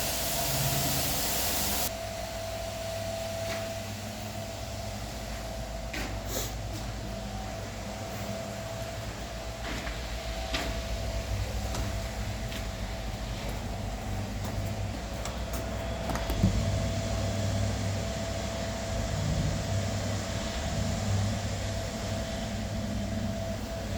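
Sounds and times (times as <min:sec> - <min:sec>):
machine humming with whine: 0:00.0 - 0:23.9.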